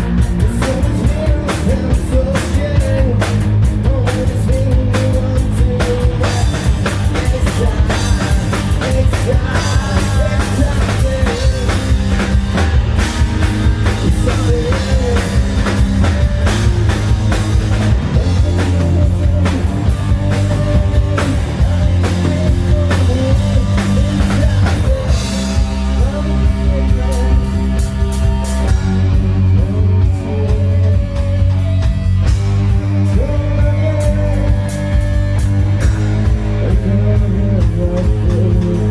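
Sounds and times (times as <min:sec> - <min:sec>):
person singing: 0:00.0 - 0:32.0, 0:32.9 - 0:35.4, 0:36.1 - 0:38.9
distorted electric guitars: 0:00.0 - 0:38.9
drum kit: 0:00.0 - 0:38.9.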